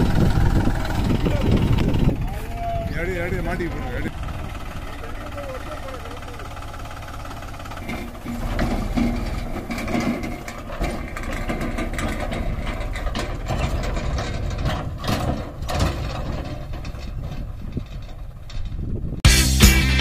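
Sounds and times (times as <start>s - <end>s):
tractor diesel engine running: 0.0s - 20.0s
trailer clanks: 3.1s - 19.2s.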